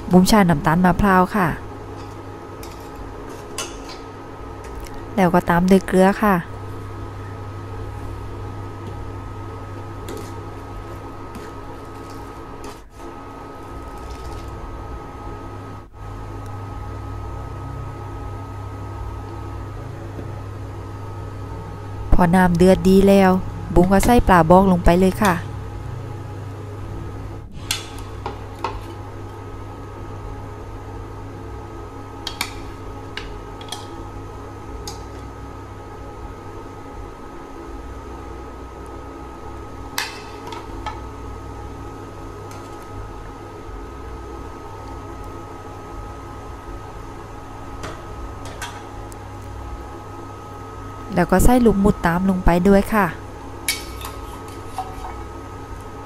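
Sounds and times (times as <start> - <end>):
cooktop electrical hum and whine: 0.0 - 56.0.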